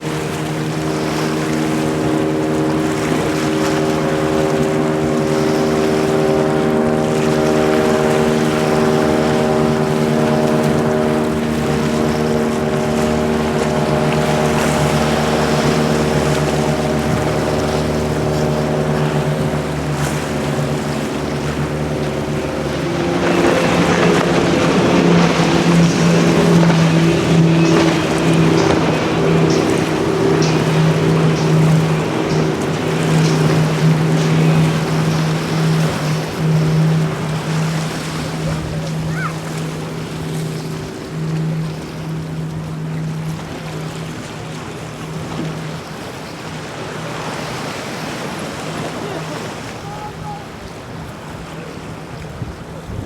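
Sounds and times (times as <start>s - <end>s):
outboard engines running: 0.0s - 53.0s
water rushing wash: 0.0s - 53.0s.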